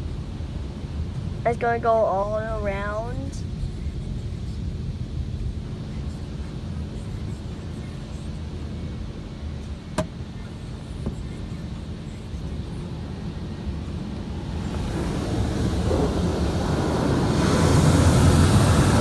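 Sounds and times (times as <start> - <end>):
car wash machinery rumbling: 0.0 - 19.0.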